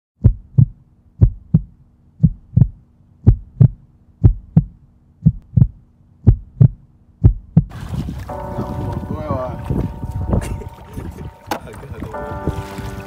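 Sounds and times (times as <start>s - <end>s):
heartbeat double thump: 0.2s - 10.7s.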